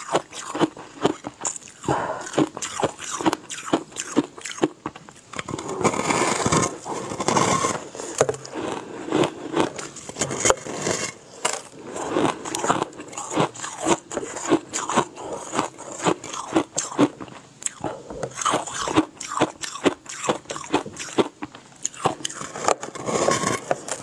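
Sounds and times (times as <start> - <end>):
teeth crunching ice: 0.0 - 5.5, 8.3 - 24.0.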